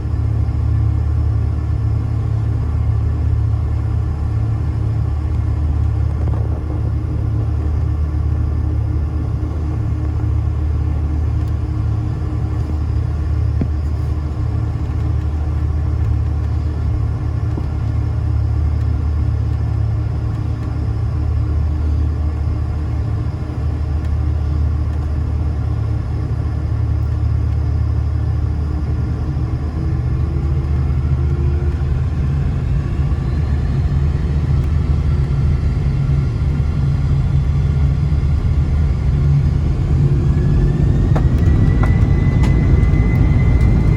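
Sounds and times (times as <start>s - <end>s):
jet engine rumble in cabin: 0.0s - 43.9s
jet engine whine: 0.0s - 43.9s.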